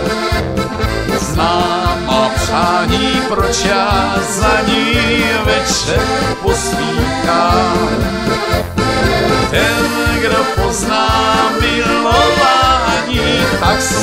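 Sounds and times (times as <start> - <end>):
accordion dance music: 0.0 - 14.0.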